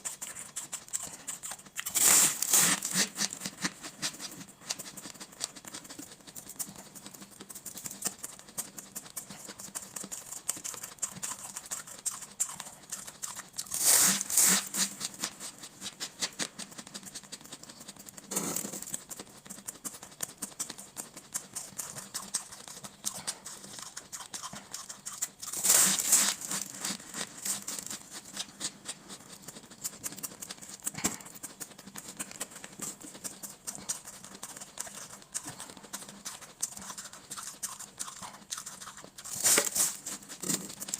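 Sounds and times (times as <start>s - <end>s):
chewing shaved ice crunching: 0.0s - 40.9s.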